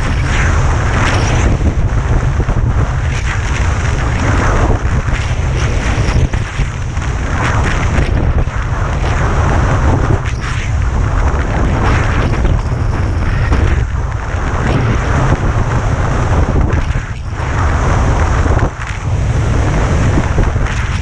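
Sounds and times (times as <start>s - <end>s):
skis carving on snow: 0.0s - 21.0s
wind buffeting microphone: 0.0s - 21.0s.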